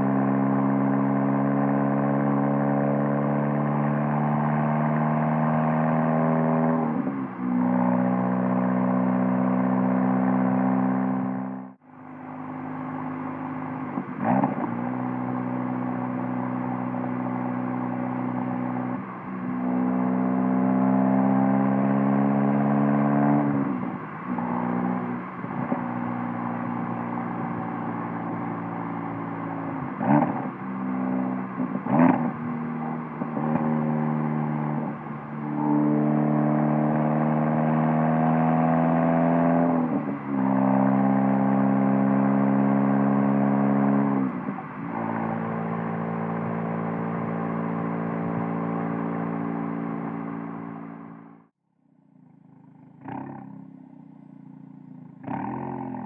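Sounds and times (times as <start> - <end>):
car exhaust note accelerating: 0.0 - 51.5.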